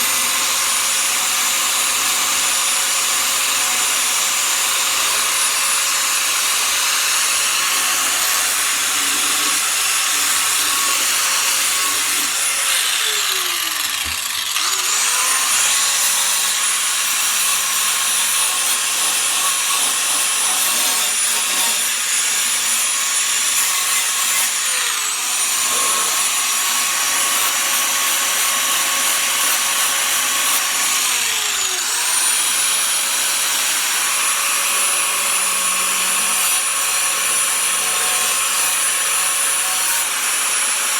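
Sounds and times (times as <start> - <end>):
angle grinder grinding fibreglass: 0.0 - 40.9.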